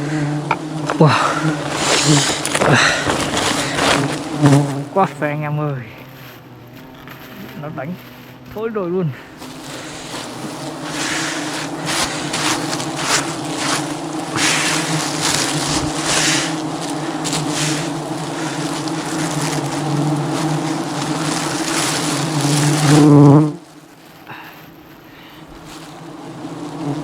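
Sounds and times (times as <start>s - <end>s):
bees buzzing: 0.0s - 27.0s
rustling noise: 0.0s - 27.0s.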